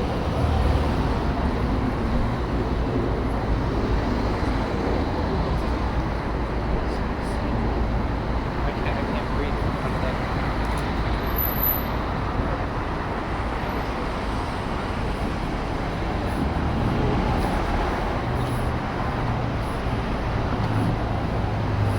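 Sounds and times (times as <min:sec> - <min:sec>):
city street traffic: 0:00.0 - 0:21.9
vehicle engine humming: 0:00.0 - 0:21.9.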